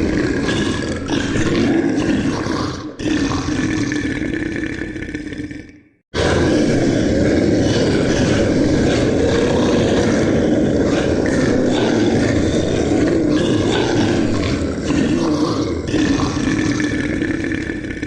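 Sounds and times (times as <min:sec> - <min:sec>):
monster growl: 0:00.0 - 0:18.0.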